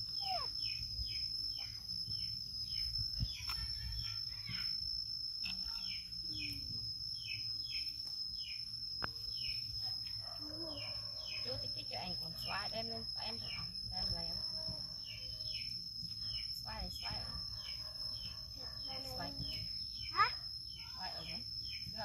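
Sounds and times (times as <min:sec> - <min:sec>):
bird chirping: 0:00.0 - 0:22.0
high-pitched insect drone: 0:00.0 - 0:22.0.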